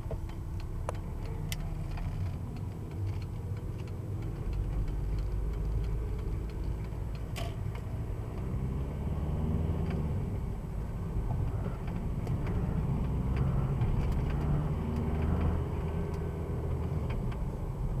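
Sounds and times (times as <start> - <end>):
light clicks and ticks: 0.0 - 8.6, 11.1 - 17.5
diesel engine droning: 0.0 - 18.0.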